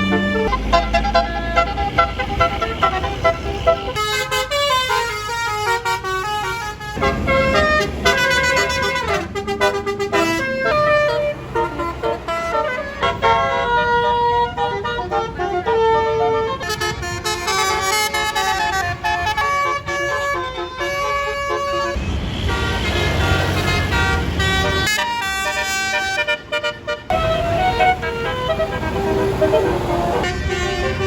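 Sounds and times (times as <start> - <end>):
multi-note bus horns melody: 0.0 - 31.0.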